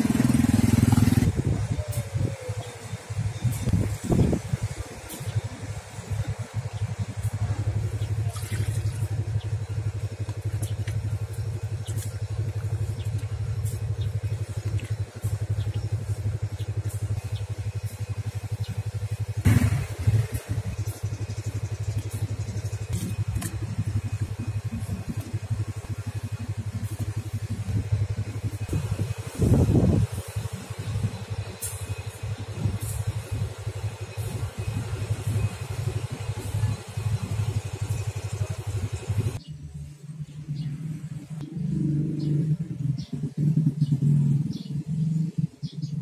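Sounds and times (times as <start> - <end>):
small engine droning: 0.0 - 46.0.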